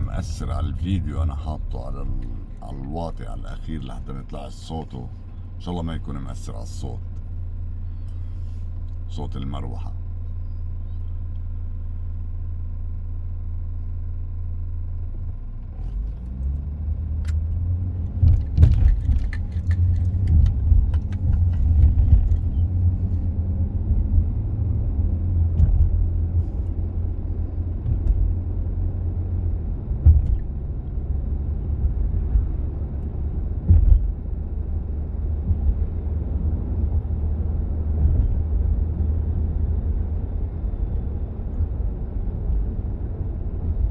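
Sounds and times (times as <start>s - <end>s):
air-conditioning fan: 0.0s - 43.9s
engine and road rumble: 0.0s - 43.9s.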